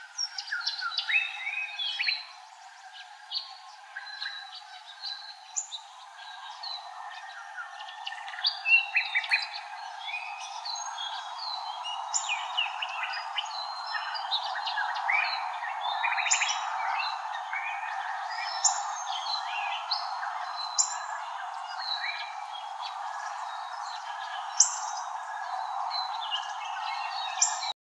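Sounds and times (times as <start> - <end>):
birds chirping and singing: 0.0 - 27.7
steady background hiss: 0.0 - 27.7.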